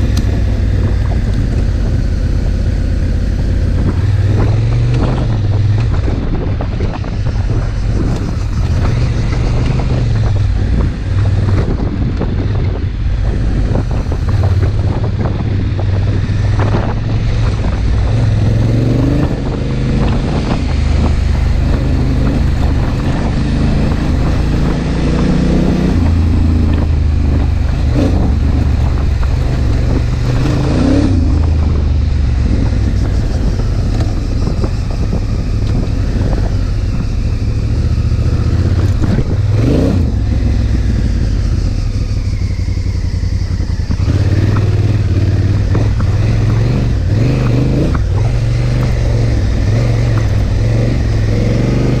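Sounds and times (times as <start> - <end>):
motorcycle engine revving: 0.0 - 52.0
wind noise on microphone: 0.0 - 52.0.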